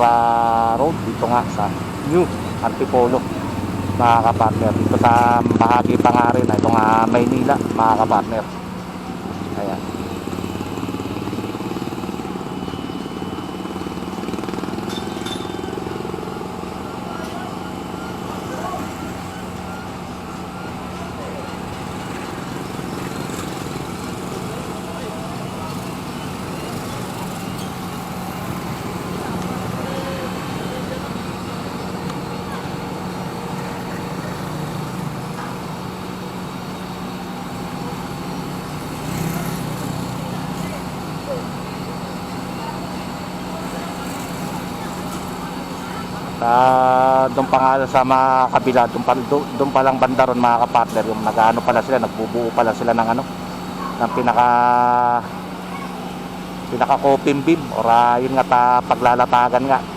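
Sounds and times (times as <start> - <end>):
small engine running: 0.0 - 59.9
street traffic hum: 0.0 - 59.9.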